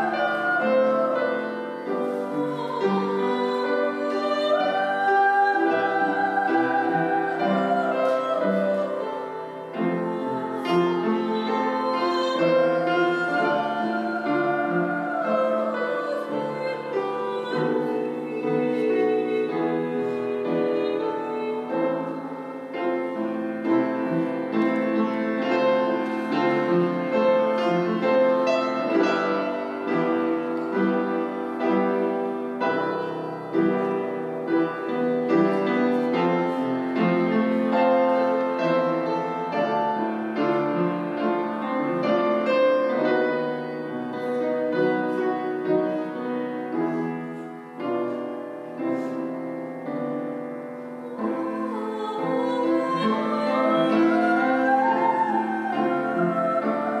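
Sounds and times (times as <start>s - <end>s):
young woman singing: 0.0s - 41.0s, 50.8s - 57.0s
classical piano accompaniment: 0.0s - 57.0s.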